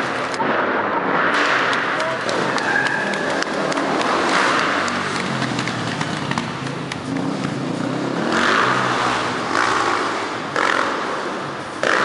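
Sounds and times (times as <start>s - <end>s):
motorcycle engine revving: 1.3s - 12.0s.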